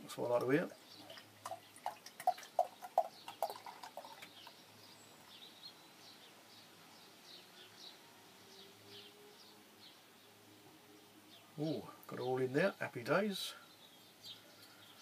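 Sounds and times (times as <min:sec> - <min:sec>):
bird chirping: 0:00.3 - 0:15.0.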